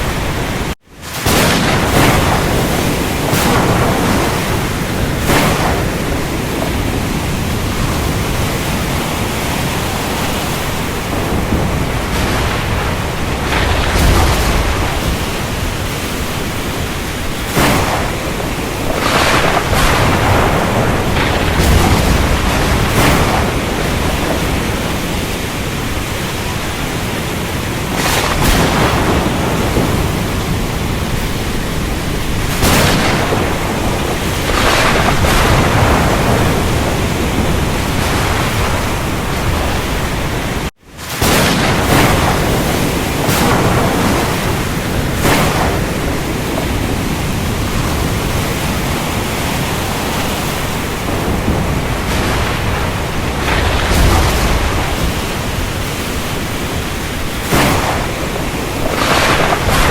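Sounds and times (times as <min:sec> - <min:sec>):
heavy rain: 0:00.0 - 0:59.9
thunder cracks: 0:00.0 - 0:59.9.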